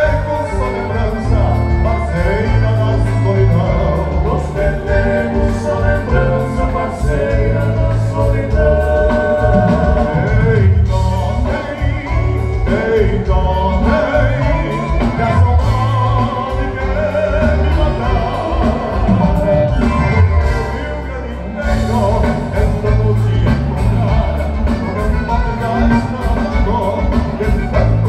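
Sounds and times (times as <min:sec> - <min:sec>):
live dance band playing: 0:00.0 - 0:28.0
person singing: 0:00.0 - 0:28.0.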